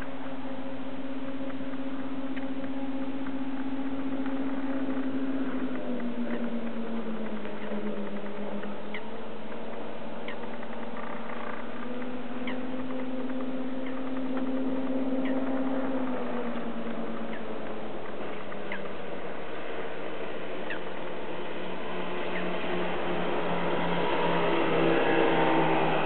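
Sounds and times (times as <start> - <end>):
powerboat engine running: 0.0 - 26.0.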